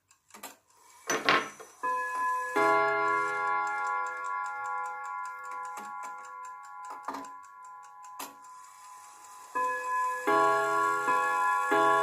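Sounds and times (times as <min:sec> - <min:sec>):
clock ticking: 0:00.0 - 0:00.9, 0:01.8 - 0:12.0
clock chime rods ringing: 0:01.6 - 0:12.0.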